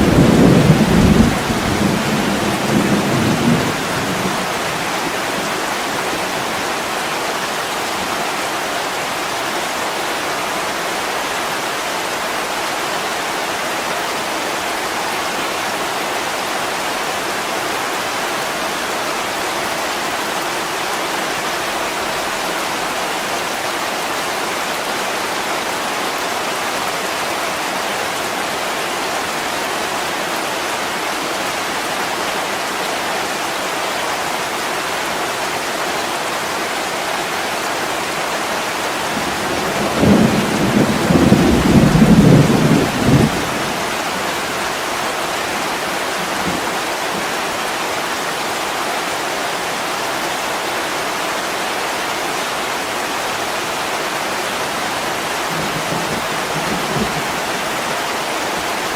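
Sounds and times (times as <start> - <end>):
heavy rain on a window: 0.0 - 58.9.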